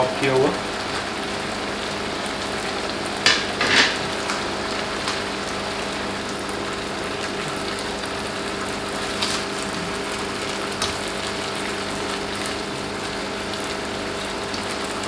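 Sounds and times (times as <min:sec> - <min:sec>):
prawns sizzling in a frying pan: 0:00.0 - 0:15.0.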